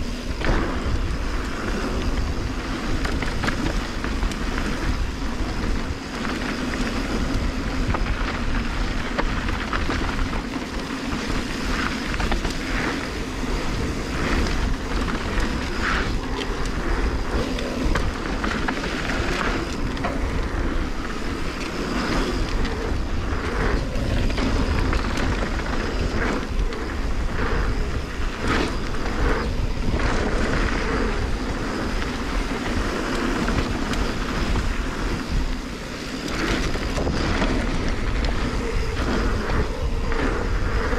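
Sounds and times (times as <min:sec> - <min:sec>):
bike rattles and knocks: 0:00.0 - 0:40.9
bike tyres rushing on gravel: 0:00.0 - 0:40.9
wind over microphone: 0:00.0 - 0:40.9.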